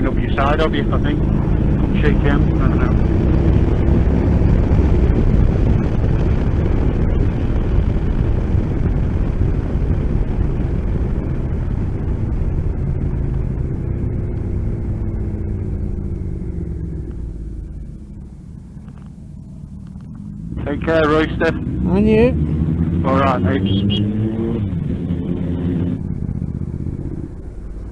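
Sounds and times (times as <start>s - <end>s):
motorcycle engines rumbling: 0.0s - 27.9s.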